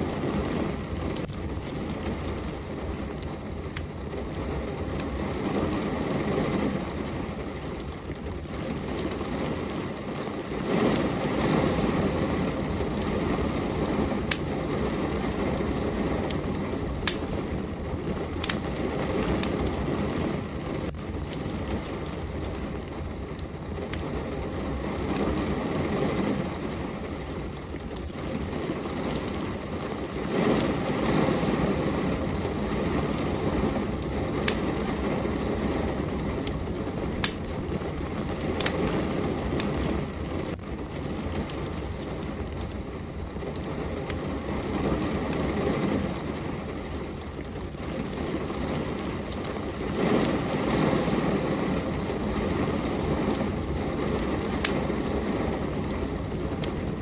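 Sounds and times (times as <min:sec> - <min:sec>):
logs popping: 0:00.0 - 0:31.5, 0:32.1 - 0:57.0
steady rain: 0:00.0 - 0:57.0
wood fire crackling: 0:00.0 - 0:57.0.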